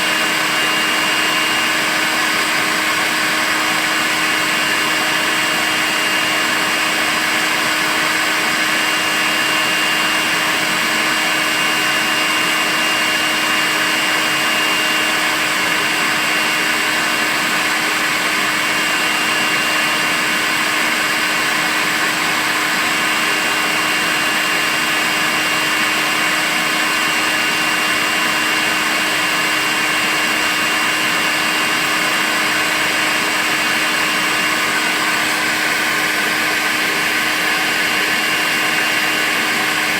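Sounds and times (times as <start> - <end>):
cordless vacuum cleaner running: 0.0 - 39.9.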